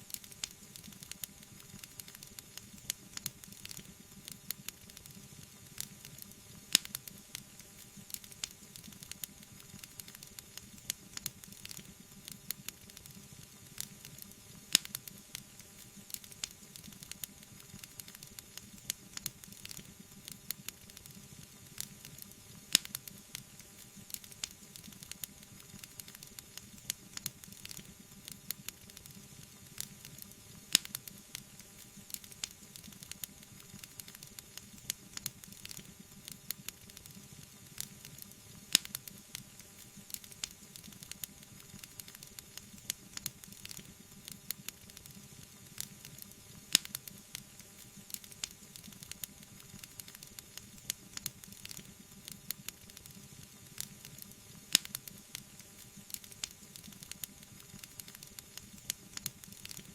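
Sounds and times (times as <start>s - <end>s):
soft hiss: 0.0s - 59.9s
wood fire crackling: 0.0s - 59.9s
fire pops: 5.8s - 21.2s, 21.8s - 59.9s.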